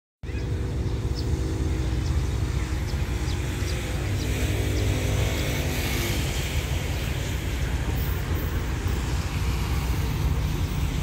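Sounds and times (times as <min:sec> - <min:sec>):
distant locomotive engine rumbling: 0:00.2 - 0:11.0.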